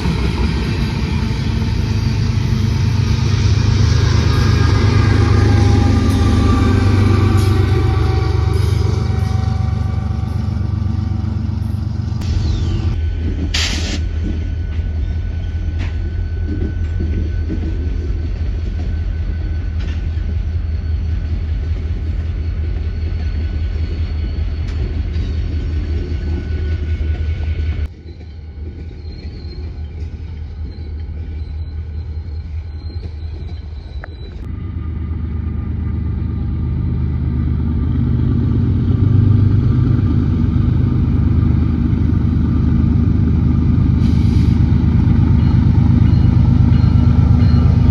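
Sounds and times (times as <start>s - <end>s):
diesel locomotive rumble: 0.0s - 47.9s
rail cars rolling: 0.0s - 47.9s.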